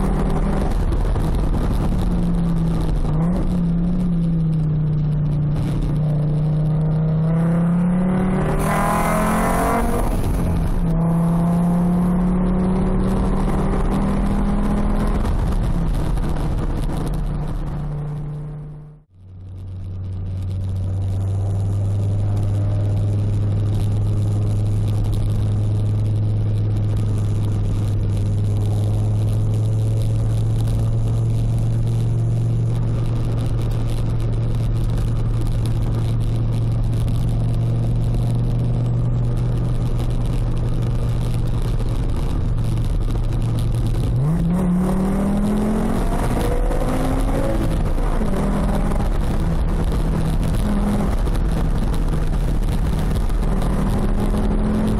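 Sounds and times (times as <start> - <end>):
car engine through loud exhaust: 0.0 - 54.9.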